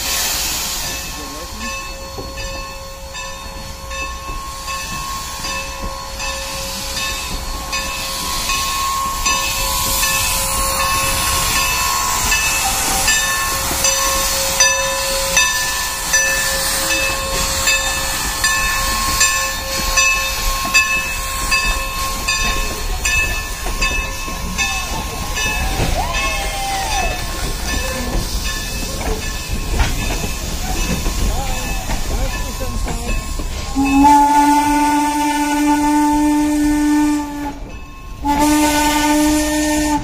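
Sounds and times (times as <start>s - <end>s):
hiss of steam: 0.0s - 40.0s.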